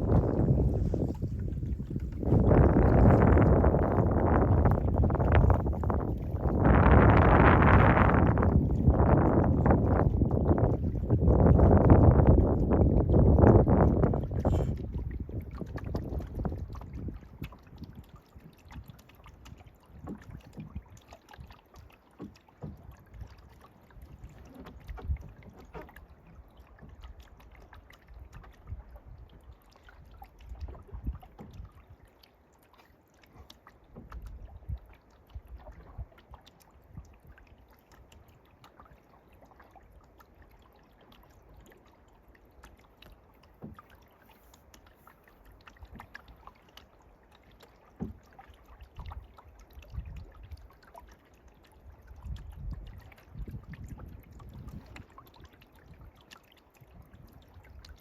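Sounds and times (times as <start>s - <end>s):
water splashing off paddle: 0.0s - 58.0s.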